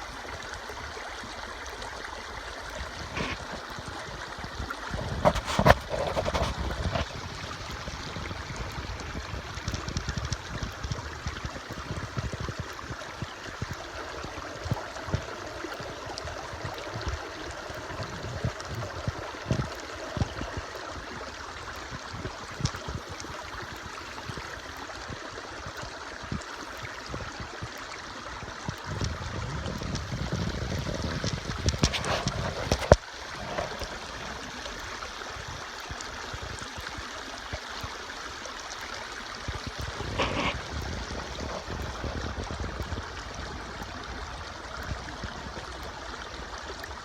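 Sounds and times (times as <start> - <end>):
stream water running: 0.0 - 47.0.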